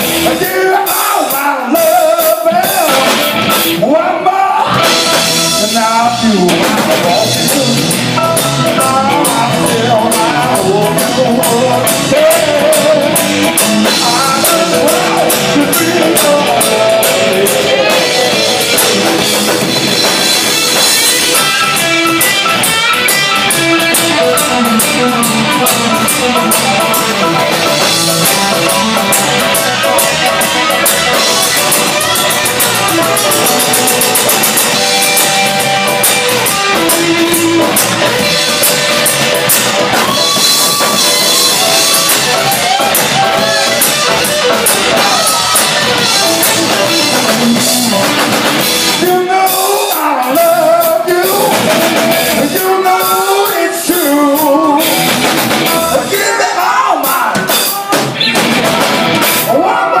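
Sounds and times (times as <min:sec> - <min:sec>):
person singing: 0:00.0 - 0:19.6, 0:23.0 - 1:00.0
bass guitar: 0:00.0 - 1:00.0
drum kit: 0:00.0 - 1:00.0
lead electric guitar: 0:00.0 - 1:00.0.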